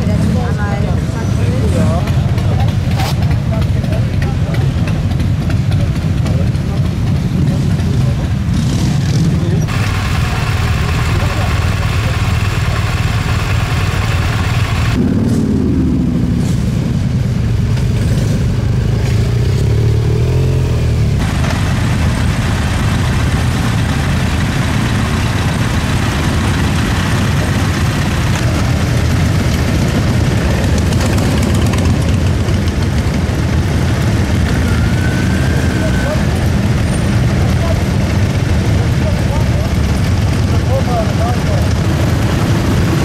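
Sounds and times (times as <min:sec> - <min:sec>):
motorcycle engines revving and idling: 0:00.0 - 0:43.0.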